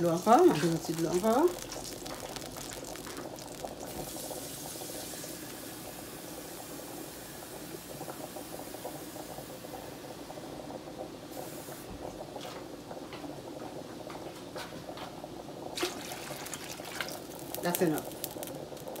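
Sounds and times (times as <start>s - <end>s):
water heating in a pot: 0.0s - 19.0s.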